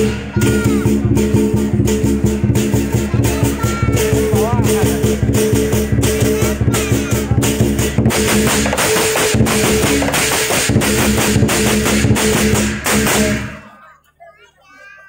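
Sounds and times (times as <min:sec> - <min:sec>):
gong ringing: 0:00.0 - 0:13.5
cymbals clashing: 0:00.0 - 0:13.8
drum beating: 0:00.0 - 0:13.8.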